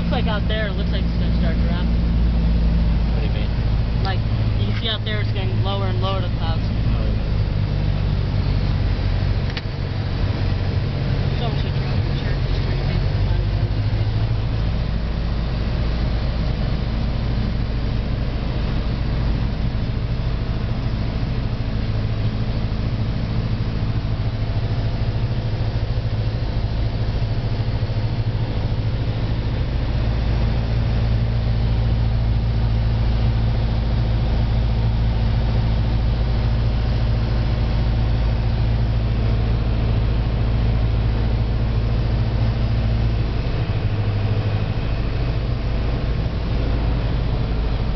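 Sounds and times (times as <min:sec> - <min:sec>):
propeller airplane engine droning: 0:00.0 - 0:47.9.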